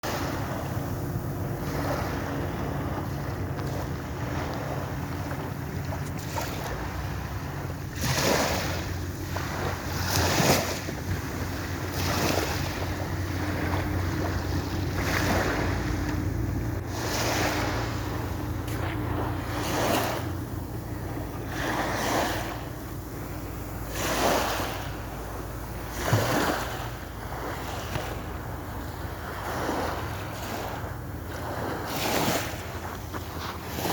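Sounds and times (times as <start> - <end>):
sea waves breaking on shore: 0.0 - 33.9
wind buffeting microphone: 0.0 - 33.9.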